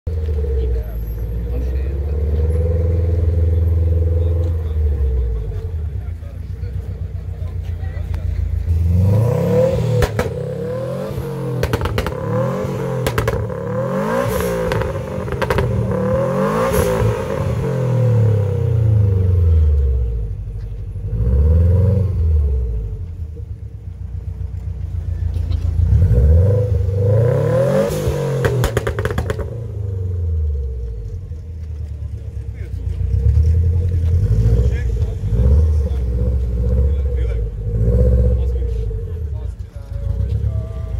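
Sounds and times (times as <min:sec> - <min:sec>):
car engine revving: 0:00.1 - 0:40.9
exhaust cracks: 0:04.3 - 0:21.3, 0:22.8 - 0:40.9.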